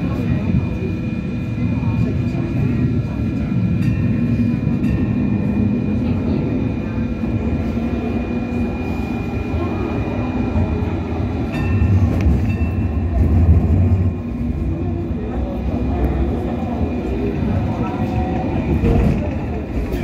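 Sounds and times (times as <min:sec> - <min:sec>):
light rail car rumbling: 0:00.0 - 0:20.0.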